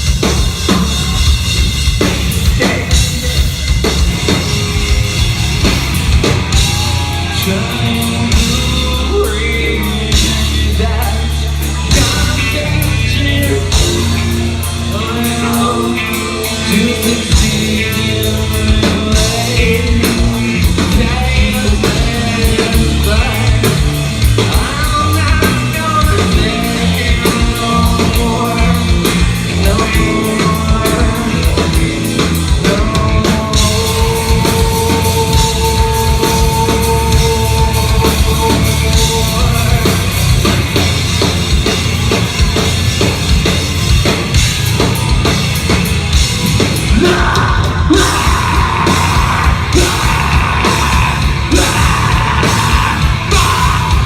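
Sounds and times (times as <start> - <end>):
drum kit: 0.0 - 54.0
guitars: 0.0 - 54.0
lead vocal singing: 2.2 - 41.0, 46.4 - 54.0.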